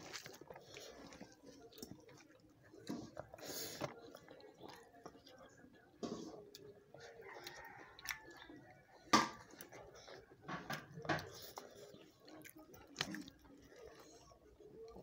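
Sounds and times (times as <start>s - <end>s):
people chewing: 0.0s - 15.0s.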